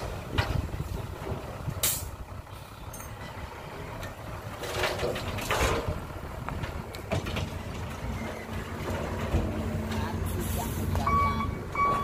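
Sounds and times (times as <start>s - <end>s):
dump truck engine running: 0.0s - 12.0s.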